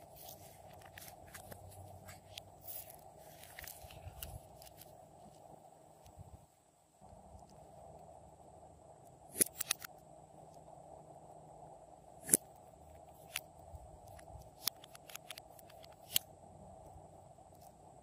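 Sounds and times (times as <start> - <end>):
faint background hiss: 0.0 - 18.0.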